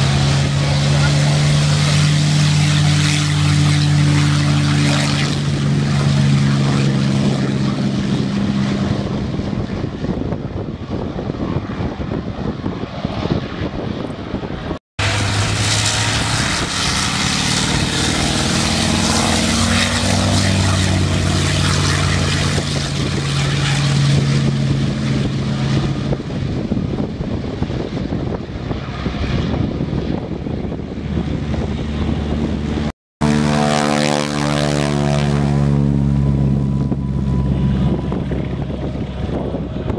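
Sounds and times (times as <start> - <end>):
propeller planes taking off: 0.0 - 39.9.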